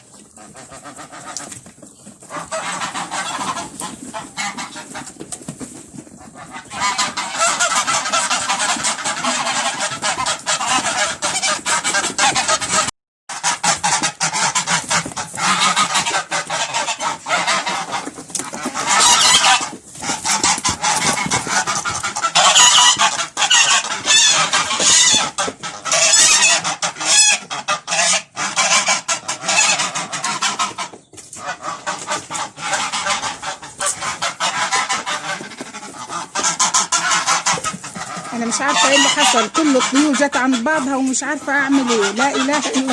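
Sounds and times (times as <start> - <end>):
geese and ducks honking: 0.0 - 42.9.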